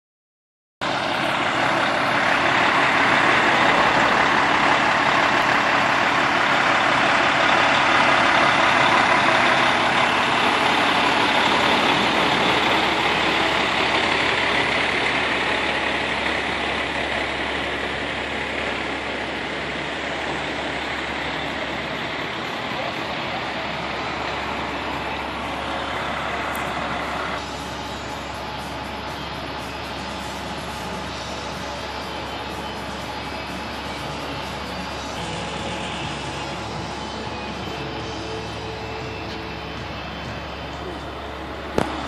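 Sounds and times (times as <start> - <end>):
diesel truck engine running: 0.8 - 42.0.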